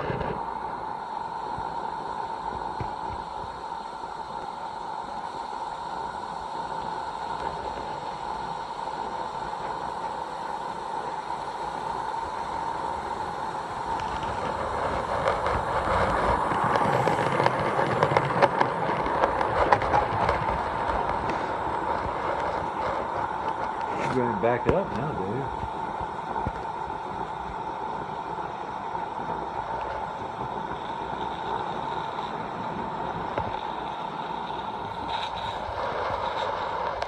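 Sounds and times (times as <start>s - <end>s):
wheels clicking on rails: 4.2s - 37.0s.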